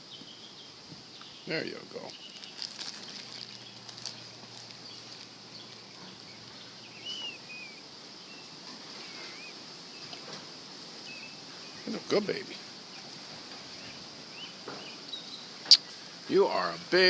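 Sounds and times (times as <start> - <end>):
bird chirping: 0.0 - 17.0
insects droning: 0.0 - 17.0.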